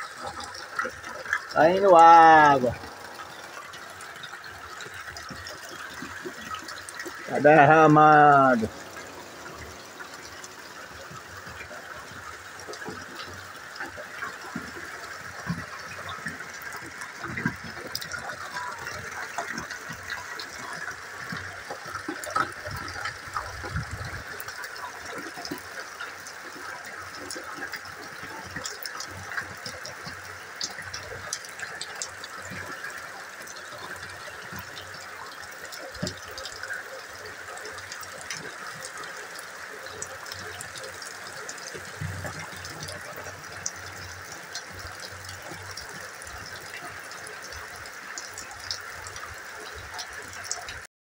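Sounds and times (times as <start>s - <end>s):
steady rain falling: 0.0s - 50.9s
water pouring off roof: 0.0s - 50.9s.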